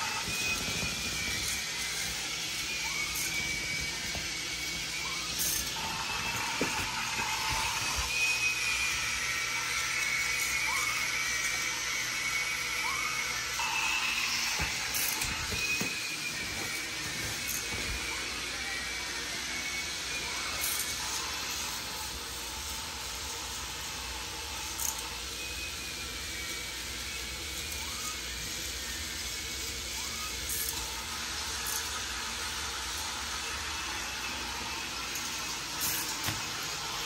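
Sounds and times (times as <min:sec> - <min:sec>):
small electric motors whirring: 0:00.0 - 0:37.0.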